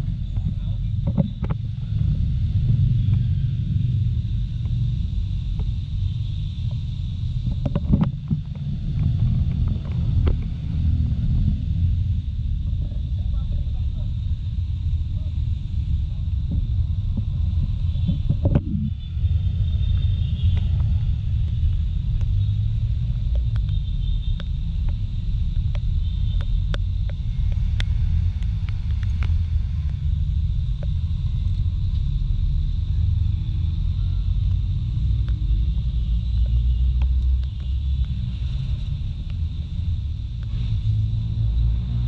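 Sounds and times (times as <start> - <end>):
wind and road rumble: 0.0 - 42.0.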